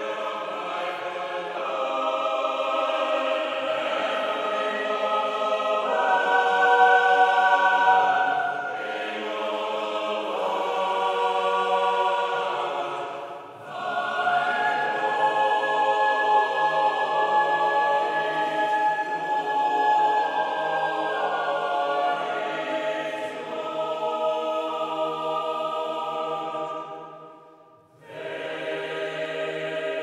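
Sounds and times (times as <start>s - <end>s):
choir singing held chords: 0.0s - 30.0s.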